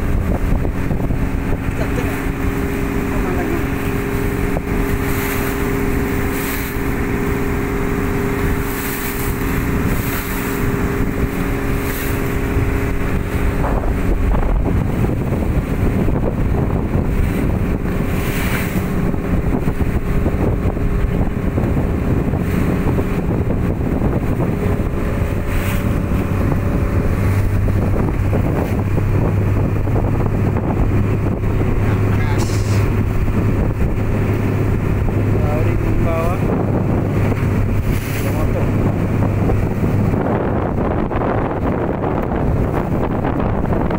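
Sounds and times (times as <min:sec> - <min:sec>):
deep hum: 0:00.0 - 0:43.9
motorboat engine drone: 0:00.0 - 0:43.9
wind buffeting microphone: 0:00.0 - 0:43.9.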